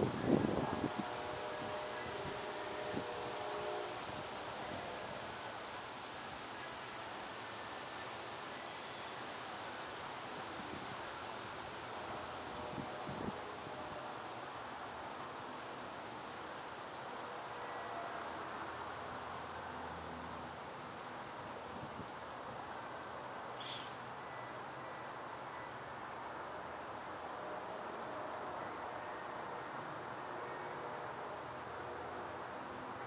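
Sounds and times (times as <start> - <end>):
insects chirping: 0.0 - 33.0
outdoor background hiss: 0.0 - 33.0.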